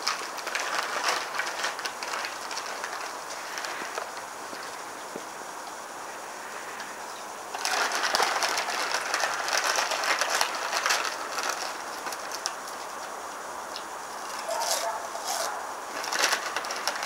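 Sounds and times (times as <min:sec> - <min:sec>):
crisps crunching: 0:00.0 - 0:05.2, 0:07.5 - 0:17.0
background hiss: 0:00.0 - 0:17.0.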